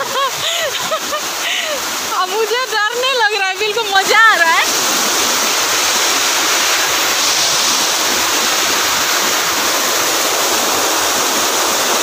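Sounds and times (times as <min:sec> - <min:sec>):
water pouring over rocks: 0:00.0 - 0:12.0.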